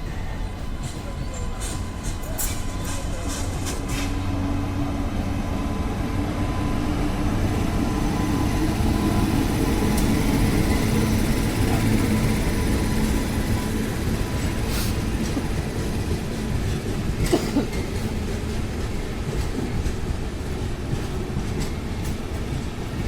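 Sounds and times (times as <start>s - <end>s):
train rumbling with droning hum: 0.0s - 23.0s.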